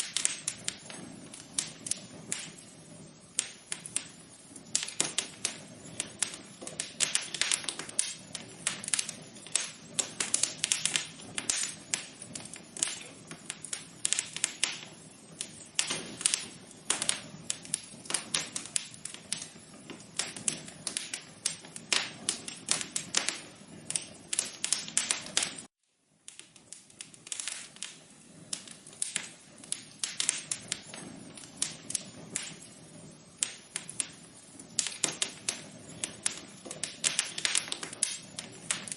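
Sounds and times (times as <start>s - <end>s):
faint fire hiss: 0.0s - 38.9s
wood fire crackling: 0.0s - 38.9s.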